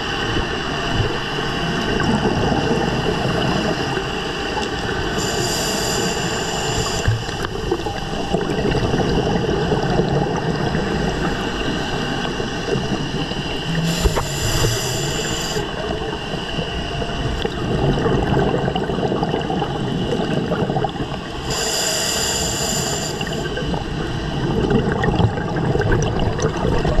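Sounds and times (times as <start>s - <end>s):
underwater rumbling hiss: 0.1s - 26.9s
diver regulator exhaling bubbles: 0.1s - 27.0s.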